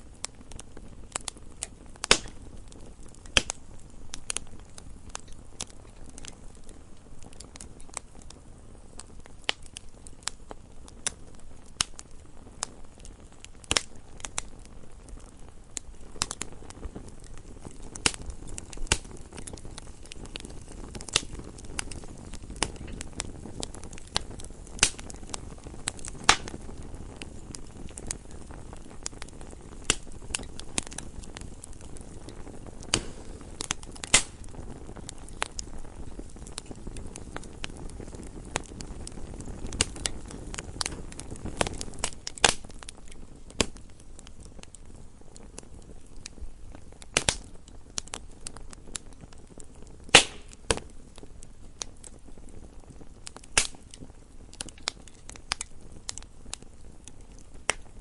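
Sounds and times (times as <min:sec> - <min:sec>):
fire hissing: 0:00.0 - 0:58.0
wood fire crackling and popping: 0:00.0 - 0:58.0.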